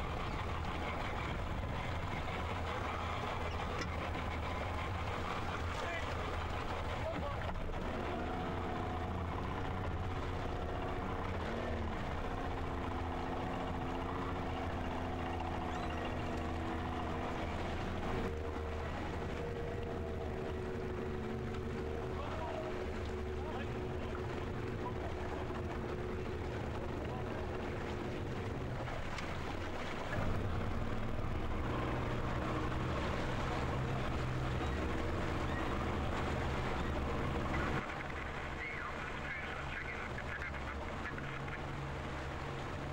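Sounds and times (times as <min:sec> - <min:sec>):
outboard motor idling: 0:00.0 - 0:42.9.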